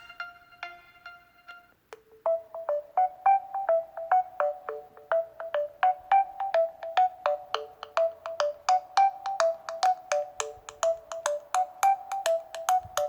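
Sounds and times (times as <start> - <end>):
phone ringtone melody: 2.2 - 13.0.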